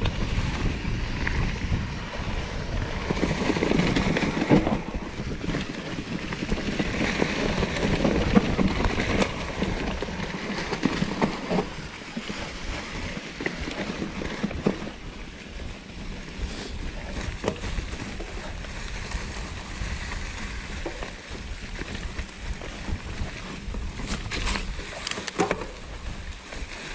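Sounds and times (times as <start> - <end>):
bike clicks and rattles: 0.0 - 26.9
tyres rushing on trail: 0.0 - 26.9
wind on microphone: 0.0 - 26.9.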